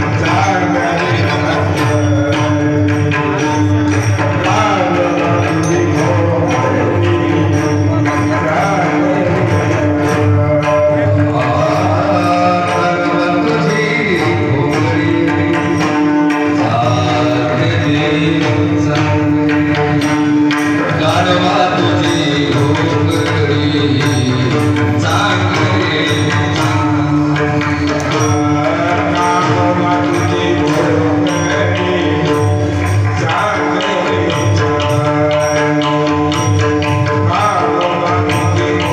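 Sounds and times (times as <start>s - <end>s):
hand drum: 0.0s - 38.9s
man singing devotional song: 0.0s - 38.9s.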